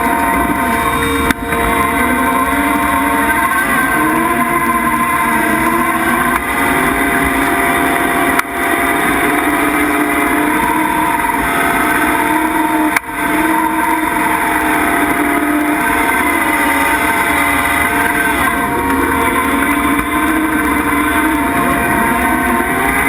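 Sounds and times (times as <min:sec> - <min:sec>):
skid steer engine and mower running: 0:00.0 - 0:23.0.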